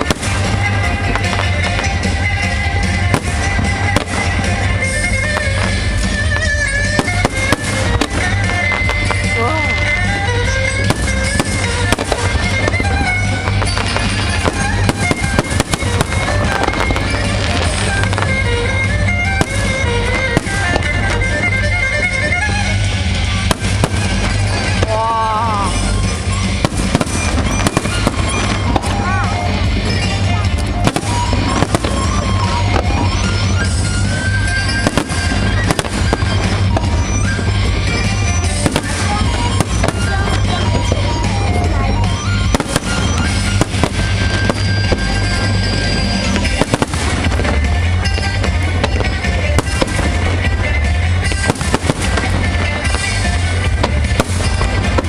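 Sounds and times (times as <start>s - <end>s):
fireworks bangs and crackles: 0.0s - 55.0s
loud music over speakers: 0.0s - 55.0s.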